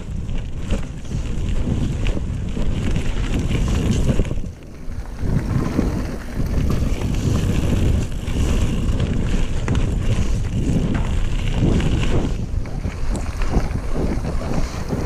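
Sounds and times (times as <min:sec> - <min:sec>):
bike clicks and rattles: 0:00.0 - 0:15.0
tyres rumbling on gravel: 0:00.0 - 0:15.0
wind buffeting microphone: 0:00.0 - 0:15.0.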